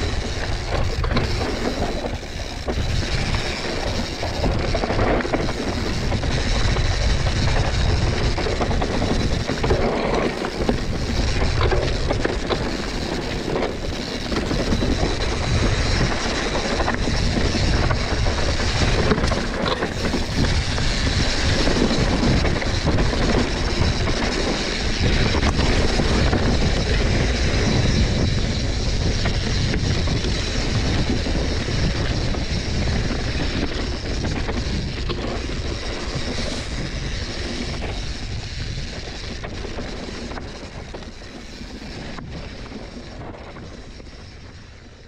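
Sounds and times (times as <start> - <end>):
mountain bike clattering: 0.0 - 45.0.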